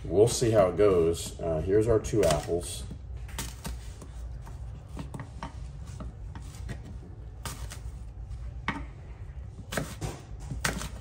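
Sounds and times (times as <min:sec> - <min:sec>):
knife cutting apples: 0:00.4 - 0:08.2, 0:09.6 - 0:11.0.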